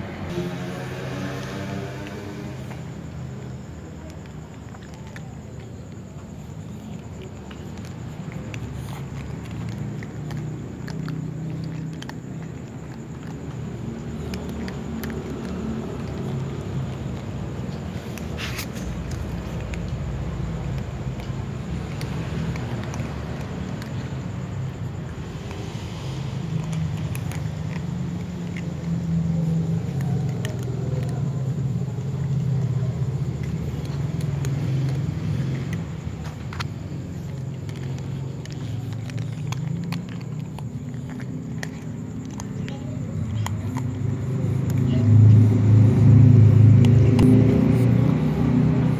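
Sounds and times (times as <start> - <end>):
cats crunching dry kibble: 0.3 - 48.9.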